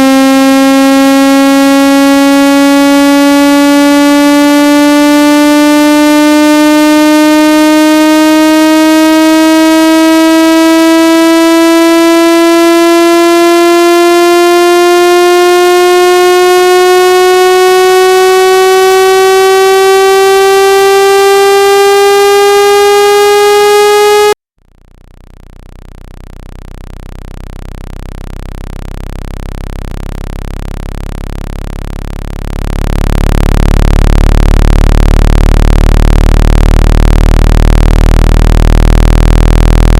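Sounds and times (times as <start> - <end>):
buzzy tone rising in pitch: 0.0 - 24.4, 25.0 - 39.9
low buzzing tone: 0.0 - 39.9.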